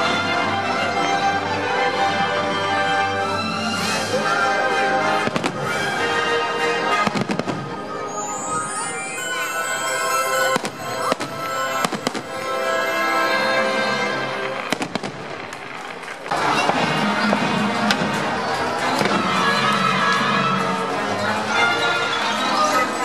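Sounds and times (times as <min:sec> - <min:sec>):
music playing: 0:00.0 - 0:15.0, 0:16.2 - 0:23.0.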